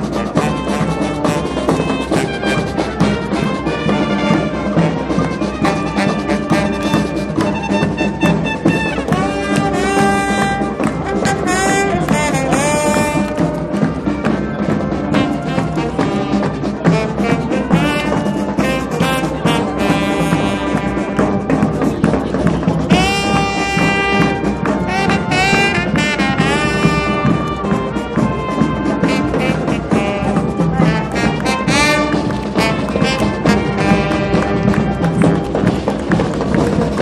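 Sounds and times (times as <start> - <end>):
brass band playing: 0.0 - 37.0
steady drum beat: 0.0 - 37.0.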